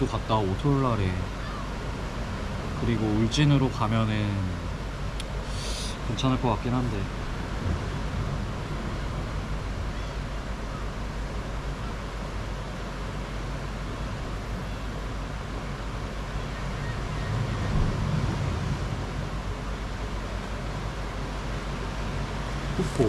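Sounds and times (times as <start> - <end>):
surf washing: 0.0 - 23.0
wind rumbling on microphone: 4.5 - 23.0.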